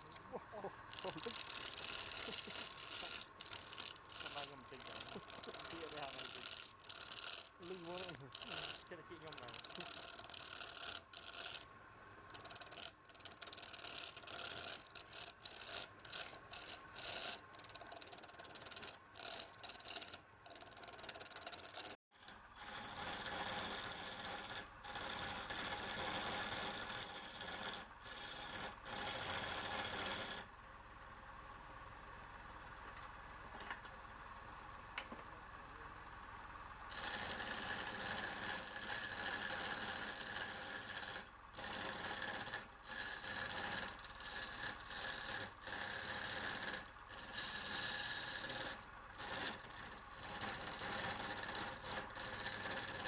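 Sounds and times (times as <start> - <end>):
tool scraping wood: 0.0 - 11.7, 12.3 - 30.5, 36.9 - 53.0.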